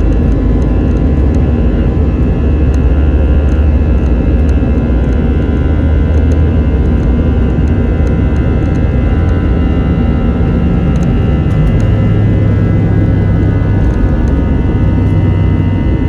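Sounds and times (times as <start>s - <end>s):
jet engines droning in cabin: 0.0s - 16.0s.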